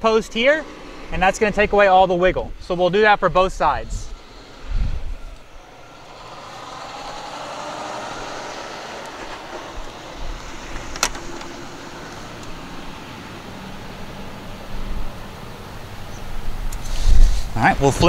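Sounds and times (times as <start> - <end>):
passing traffic rush: 0.0 - 18.0.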